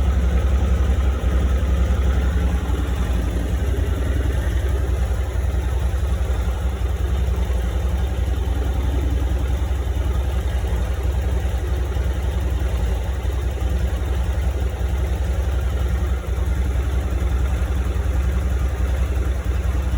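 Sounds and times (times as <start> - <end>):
motorcycle engine idling: 0.0 - 19.9.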